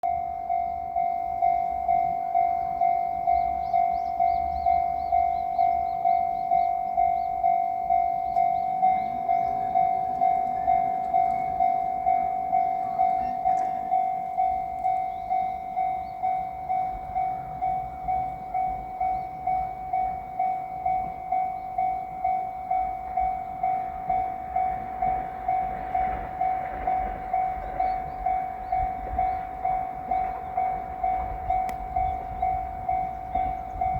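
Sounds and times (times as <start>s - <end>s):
level crossing warning bell: 0.0s - 33.9s
low train rumble: 0.0s - 33.9s.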